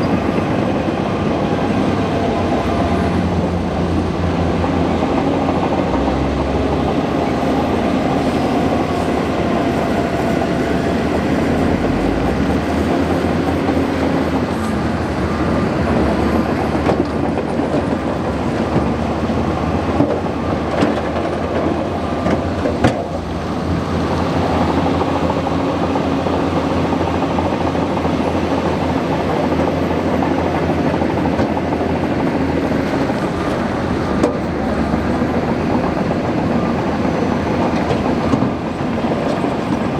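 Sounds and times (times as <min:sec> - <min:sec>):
bulldozer diesel engine: 0:00.0 - 0:39.9
steel tracks clattering: 0:00.0 - 0:39.9.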